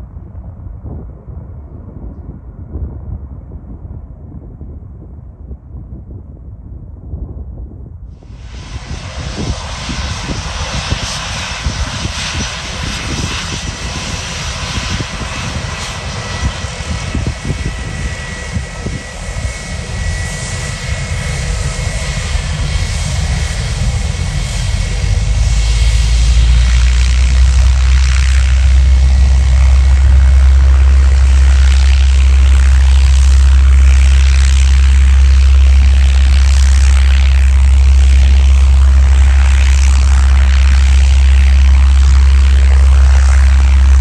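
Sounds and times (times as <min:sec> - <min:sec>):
airliner engines running: 0:08.1 - 0:44.0.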